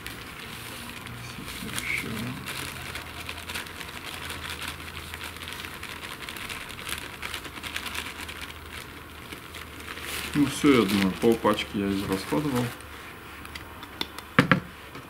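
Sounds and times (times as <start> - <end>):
salt grains pouring into bowl: 0.0 - 12.8
paper packet crinkling: 0.0 - 13.8.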